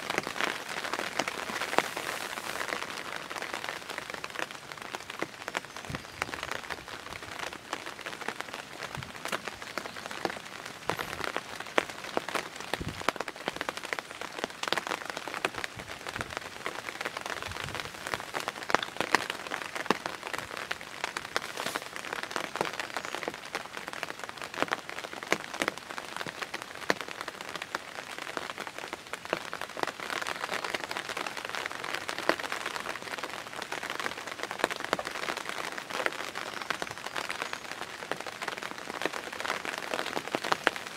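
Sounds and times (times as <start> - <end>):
light rain pattering: 0.0 - 40.9.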